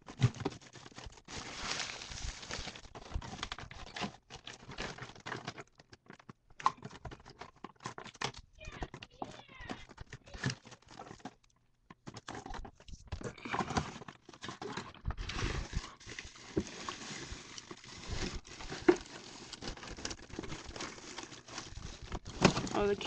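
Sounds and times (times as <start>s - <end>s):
person rummaging through belongings: 0.0s - 23.0s.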